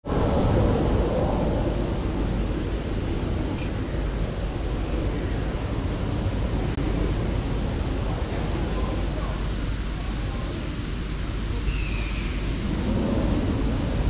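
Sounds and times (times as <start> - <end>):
wind buffeting microphone: 0.0 - 14.0
background hiss: 0.1 - 14.0.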